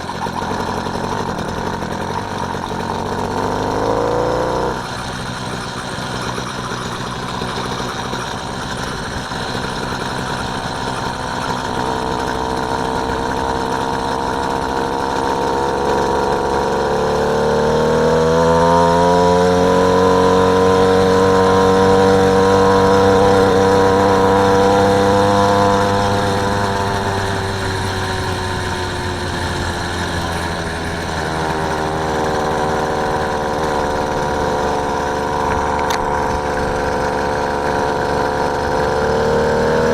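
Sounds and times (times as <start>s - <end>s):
motorised bicycle engine running: 0.0s - 39.9s.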